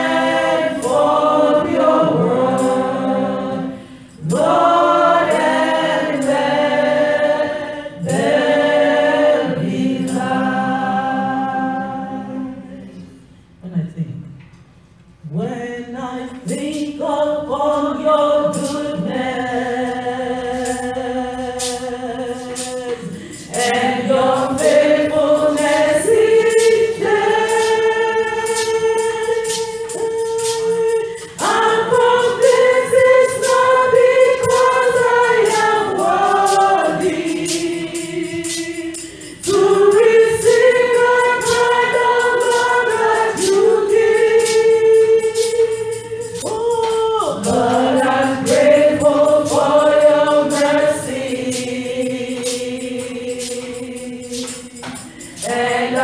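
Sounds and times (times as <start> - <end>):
steady percussion beat: 0.0 - 12.7, 16.4 - 56.0
choir singing gospel: 0.0 - 13.3, 15.3 - 56.0.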